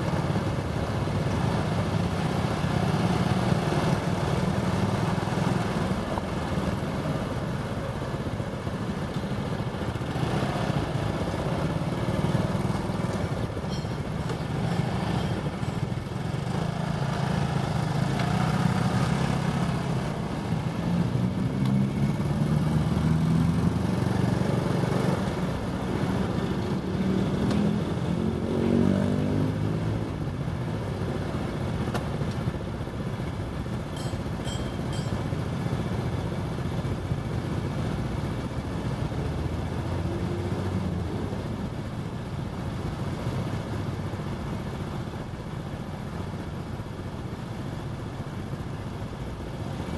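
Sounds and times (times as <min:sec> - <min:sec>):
city traffic: 0:00.0 - 0:49.9.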